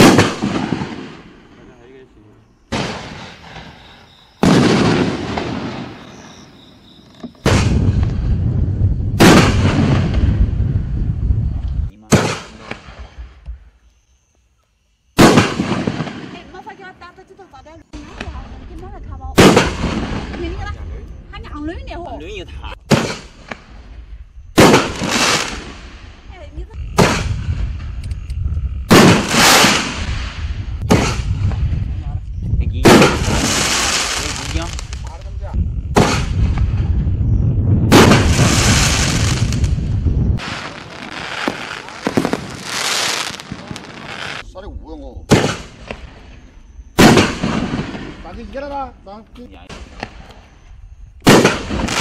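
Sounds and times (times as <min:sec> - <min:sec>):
firework shells booming: 0:00.0 - 0:01.7, 0:02.6 - 0:11.0, 0:11.6 - 0:13.7, 0:15.2 - 0:16.9, 0:18.0 - 0:20.8, 0:22.8 - 0:32.0, 0:32.7 - 0:37.1, 0:37.7 - 0:44.4, 0:45.3 - 0:48.6, 0:49.7 - 0:52.0.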